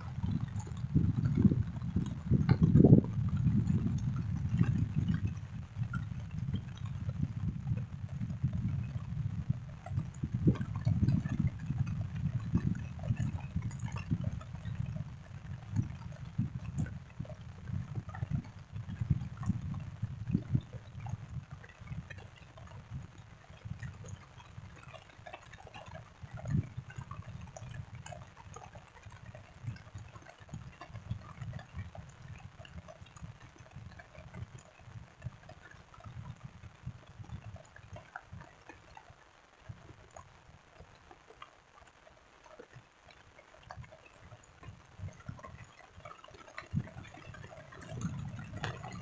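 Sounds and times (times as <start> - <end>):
rain drops ticking: 0.0 - 49.0.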